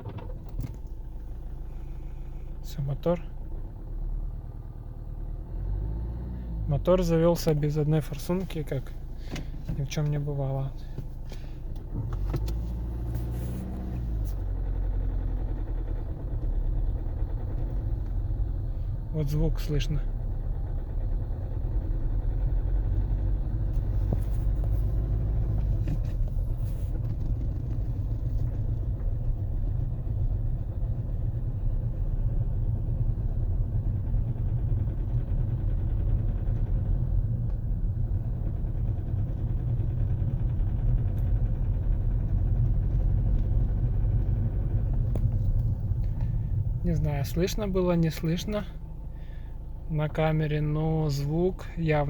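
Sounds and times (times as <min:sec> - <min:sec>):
diesel engine rumbling with knock: 0:00.0 - 0:52.0.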